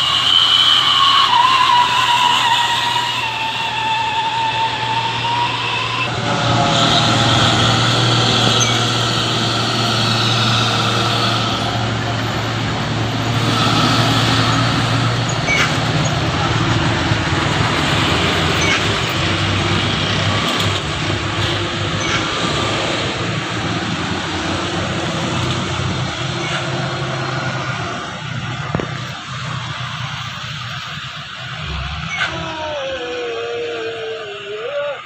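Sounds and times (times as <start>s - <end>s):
road and mechanical noise: 0.0s - 35.0s
truck engine droning: 0.0s - 35.0s.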